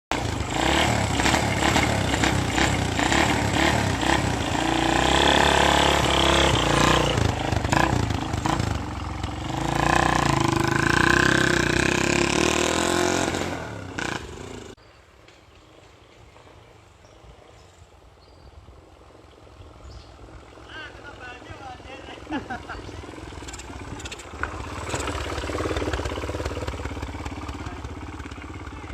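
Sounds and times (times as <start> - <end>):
motorcycle engine revving: 0.1 - 14.8, 19.7 - 28.9.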